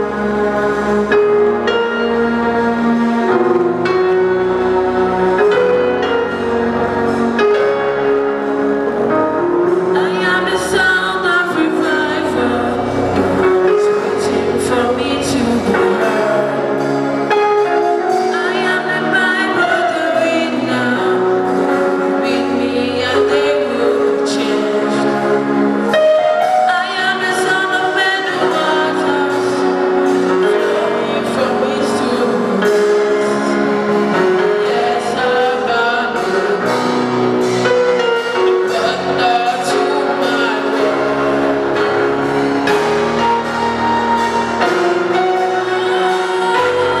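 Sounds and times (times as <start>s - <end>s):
gospel singing voices: 0.0s - 47.0s
instrumental backing: 0.0s - 47.0s.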